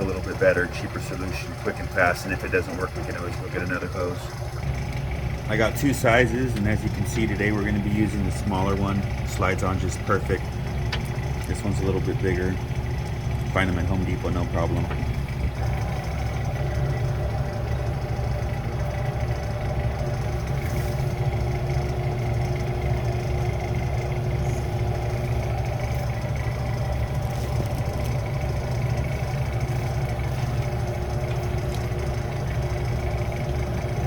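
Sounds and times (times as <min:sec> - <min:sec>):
refrigeration unit humming: 0:00.0 - 0:34.0.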